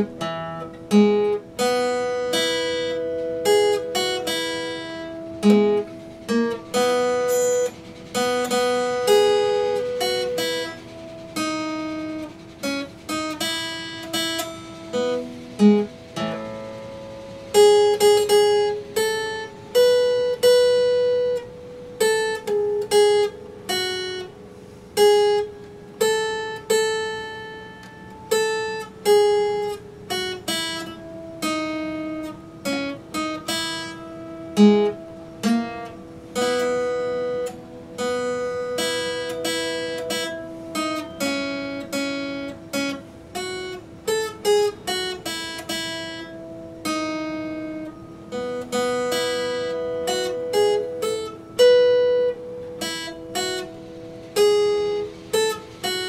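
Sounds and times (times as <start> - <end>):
acoustic guitar melody: 0.0 - 56.0.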